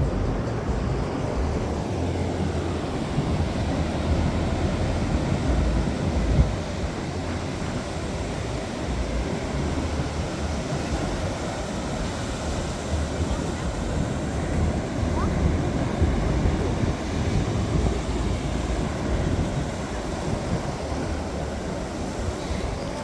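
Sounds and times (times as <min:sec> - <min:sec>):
ocean surf: 0:00.0 - 0:23.0
wind buffeting microphone: 0:00.0 - 0:23.0.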